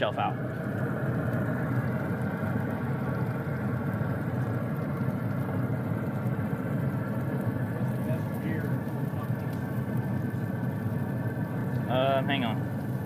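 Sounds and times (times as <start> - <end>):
faint steady tones: 0.0 - 13.0
low mechanical drone: 0.0 - 13.0.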